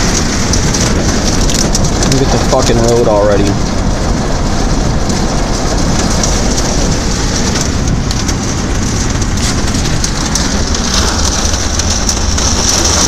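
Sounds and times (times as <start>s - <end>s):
hail and rain on car roof: 0.0s - 13.0s.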